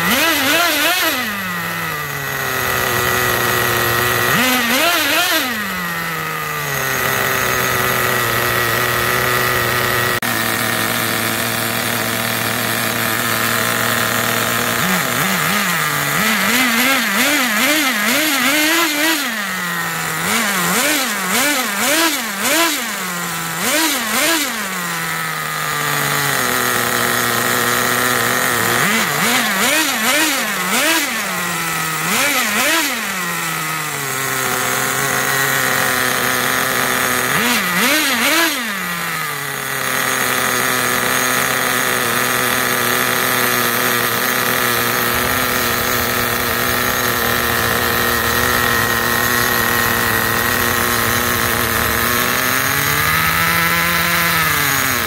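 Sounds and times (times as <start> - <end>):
small nitro engine revving and idling: 0.0 - 55.0.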